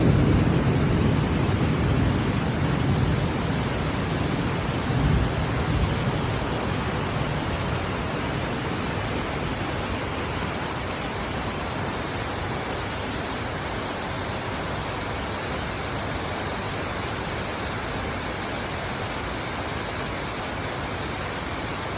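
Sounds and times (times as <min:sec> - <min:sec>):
steady rain: 0:00.0 - 0:21.9.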